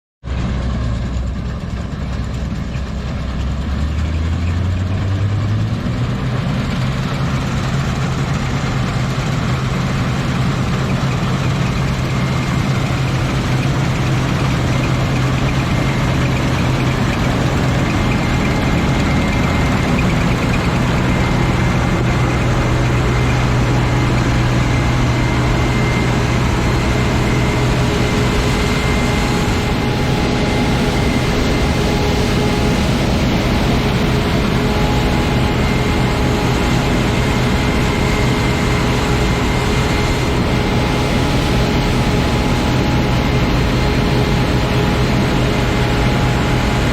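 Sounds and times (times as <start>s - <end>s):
combine harvester diesel engine: 0.2s - 46.9s
faint high whine: 6.9s - 46.9s.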